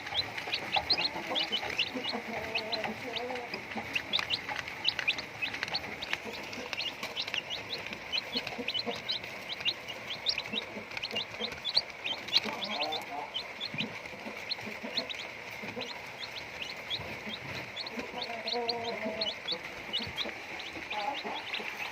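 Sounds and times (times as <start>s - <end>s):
chickens clucking: 0.0s - 21.9s
chicks peeping: 0.0s - 21.9s.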